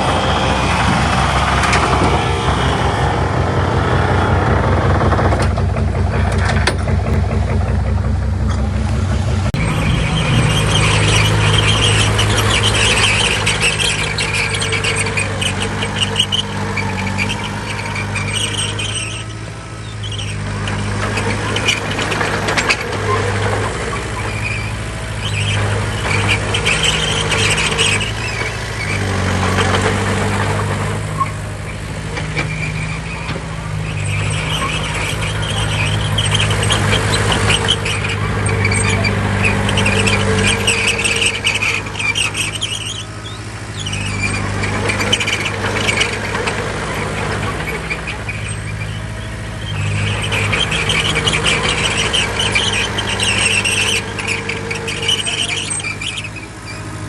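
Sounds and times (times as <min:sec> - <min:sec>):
high metallic squeal: 0:00.0 - 0:04.4, 0:09.5 - 0:57.0
heavy machinery diesel engine: 0:00.0 - 0:57.0.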